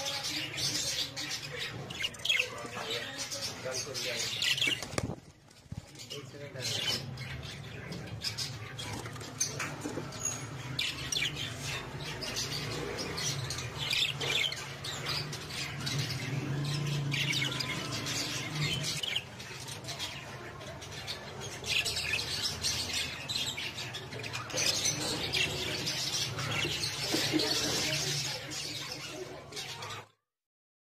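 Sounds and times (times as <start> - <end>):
budgerigars chirping and squawking: 0.0 - 30.1.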